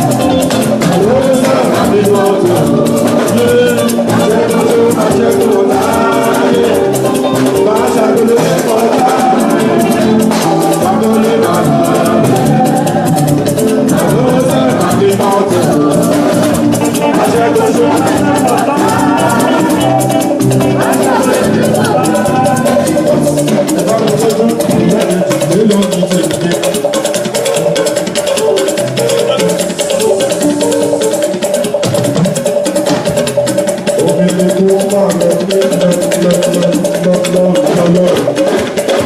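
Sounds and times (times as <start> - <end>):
drums: 0.0 - 39.0
shaker rhythm: 0.0 - 39.0
voices singing: 0.0 - 39.0.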